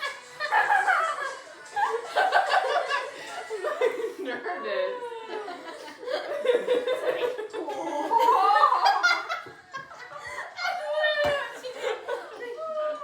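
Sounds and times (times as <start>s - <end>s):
girls laughing and giggling: 0.0s - 13.0s.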